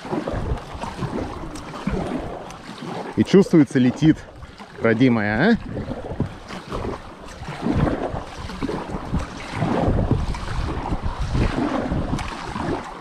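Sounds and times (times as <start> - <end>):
water noise from kayak: 0.0 - 13.0
wind buffeting microphone: 0.0 - 13.0.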